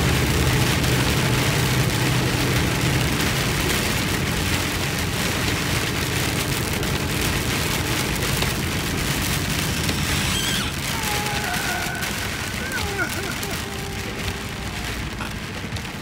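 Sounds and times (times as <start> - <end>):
heavy rain on vehicle roof: 0.0 - 16.0
road and engine rumble: 0.0 - 16.0.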